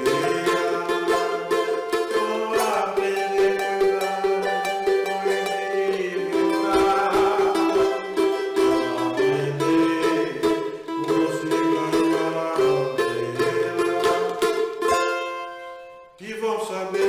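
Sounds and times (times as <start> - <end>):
strummed cavaquinho chords: 0.0 - 16.2.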